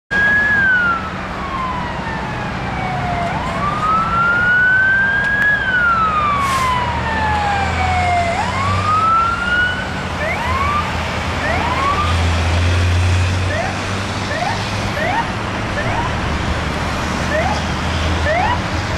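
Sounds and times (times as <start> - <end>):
emergency vehicle siren wailing: 0.1 - 18.9
truck engine rumbling: 0.2 - 18.9.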